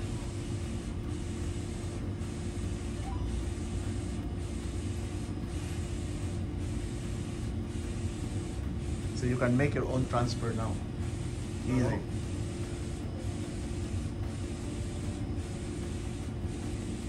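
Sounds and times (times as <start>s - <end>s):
printer whirring and humming: 0.0s - 17.0s.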